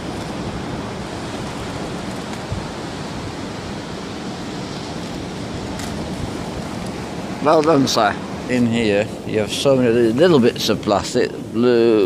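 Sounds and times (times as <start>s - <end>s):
surf breaking on beach: 0.0s - 12.0s
wind: 0.0s - 12.0s.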